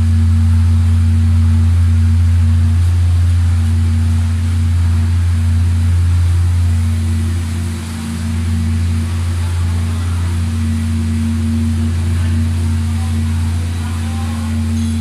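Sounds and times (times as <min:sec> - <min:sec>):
steam boiler humming: 0:00.0 - 0:15.0.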